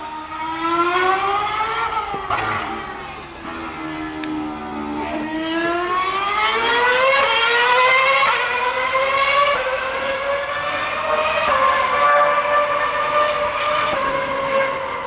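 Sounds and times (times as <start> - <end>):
racing car engine whine: 0.0 - 15.0.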